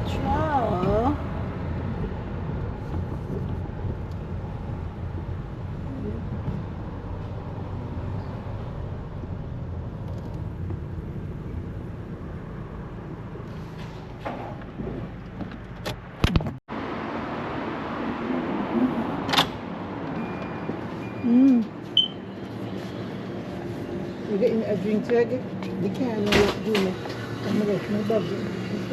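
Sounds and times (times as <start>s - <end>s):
car engine and road noise: 0.0s - 28.9s.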